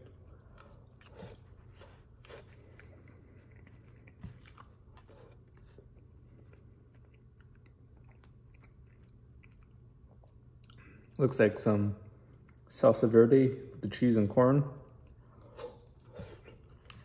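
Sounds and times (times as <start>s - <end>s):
chewing with wet mouth clicks: 0.0s - 11.2s, 12.0s - 12.7s, 14.8s - 17.0s
low steady hum: 0.0s - 17.0s.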